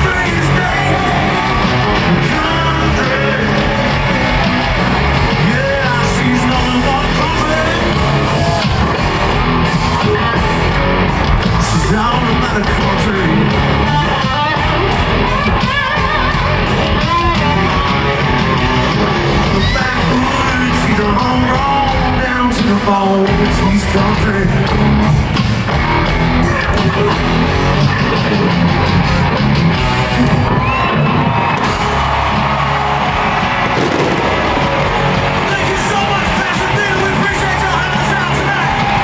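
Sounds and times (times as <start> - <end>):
live country rock band: 0.0 - 39.0.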